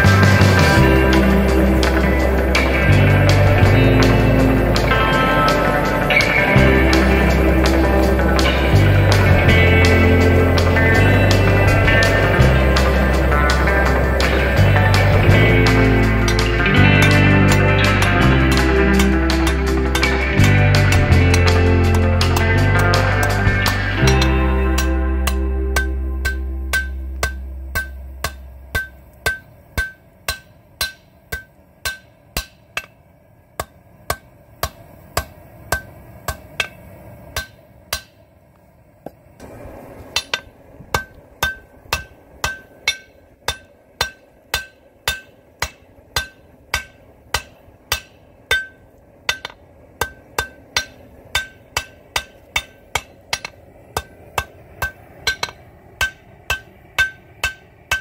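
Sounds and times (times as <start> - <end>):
hammer blows on anvil: 0.0 - 33.0, 40.2 - 58.0.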